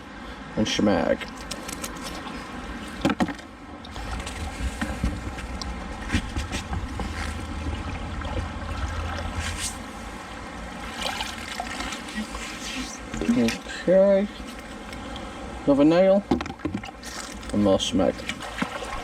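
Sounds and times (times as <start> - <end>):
water sloshing around wading person: 1.2 - 15.5, 16.5 - 19.0.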